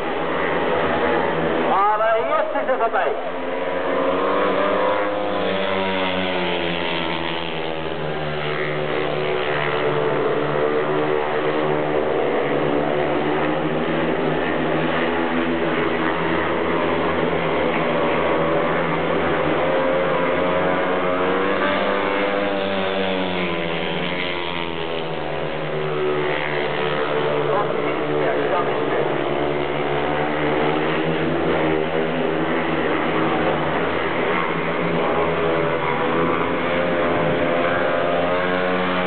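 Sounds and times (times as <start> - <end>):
motorcycles racing: 0.0 - 39.0.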